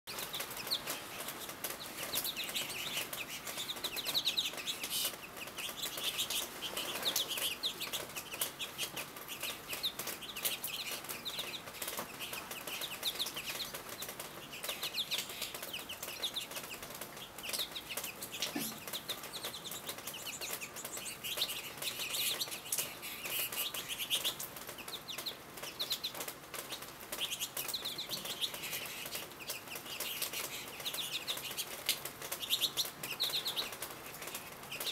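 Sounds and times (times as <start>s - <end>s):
finches chirping: 0.1s - 34.9s.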